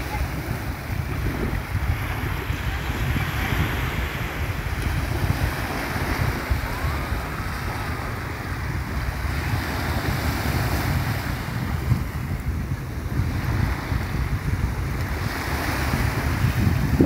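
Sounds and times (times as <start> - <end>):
small waves washing ashore: 0.0 - 17.0
wind buffeting microphone: 0.0 - 17.0.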